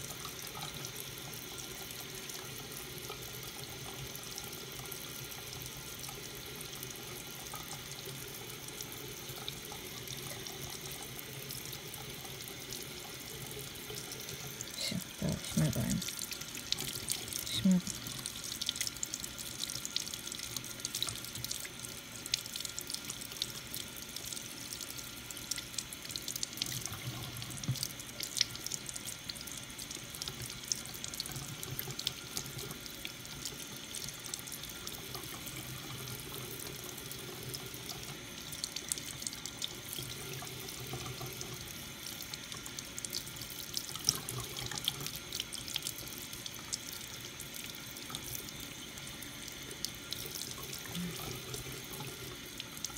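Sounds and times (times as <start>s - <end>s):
faucet running into a sink: 0.0s - 52.9s.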